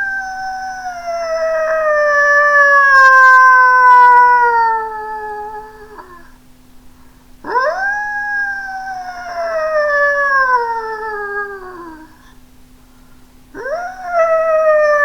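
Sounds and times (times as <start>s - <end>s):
person imitating coyote howl: 0.0s - 6.3s, 7.4s - 12.2s, 13.6s - 15.0s.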